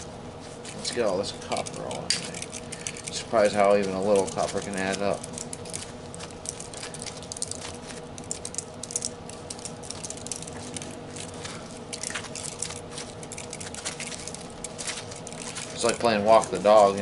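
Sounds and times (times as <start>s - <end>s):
wire clicking and crinkling: 0.6s - 17.0s.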